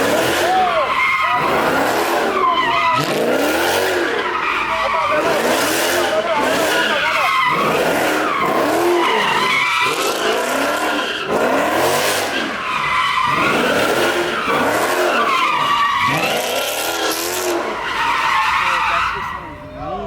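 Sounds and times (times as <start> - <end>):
car engine revving: 0.0 - 19.6
tires squealing: 0.0 - 20.0.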